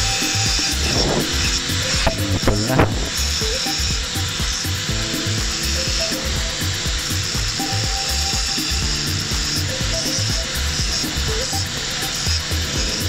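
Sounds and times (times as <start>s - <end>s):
angle grinder cutting steel: 0.0s - 13.0s
background music with a beat: 0.0s - 13.0s.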